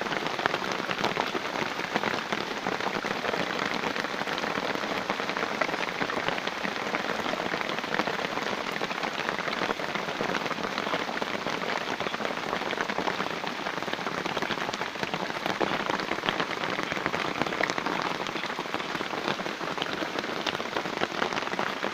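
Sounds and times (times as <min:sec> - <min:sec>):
heavy rain hissing: 0:00.0 - 0:21.9
patter of raindrops: 0:00.0 - 0:21.9.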